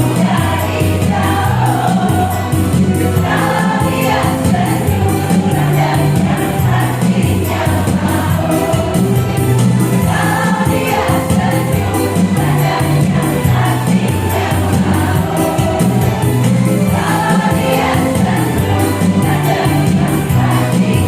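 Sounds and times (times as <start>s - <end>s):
instrumental accompaniment with beat: 0.0s - 21.0s
women's choir singing: 0.0s - 21.0s.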